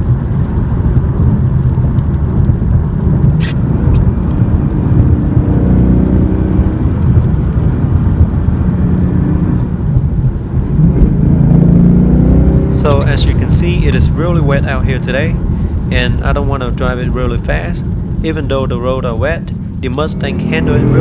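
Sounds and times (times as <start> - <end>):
car engine and exhaust running: 0.0 - 21.0.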